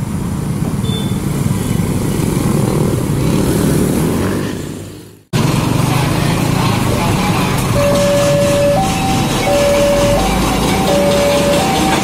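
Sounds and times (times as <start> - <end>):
engine and traffic rumble: 0.0 - 12.0.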